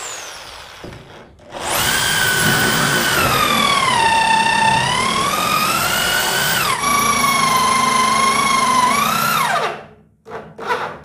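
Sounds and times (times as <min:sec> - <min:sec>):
electric drill whining: 0:00.0 - 0:09.8
hole saw cutting wood: 0:00.0 - 0:09.8.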